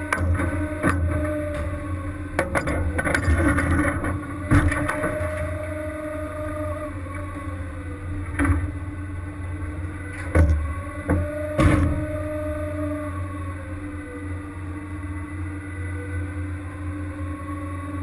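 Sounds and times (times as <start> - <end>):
boat engine and machinery hum: 0.0 - 18.0.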